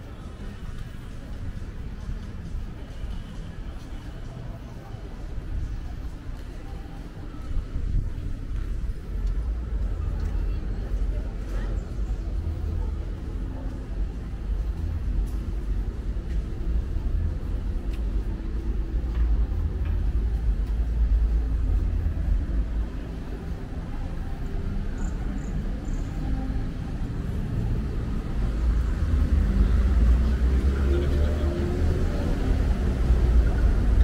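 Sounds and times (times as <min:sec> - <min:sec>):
low uneven street rumble: 0:00.0 - 0:34.0.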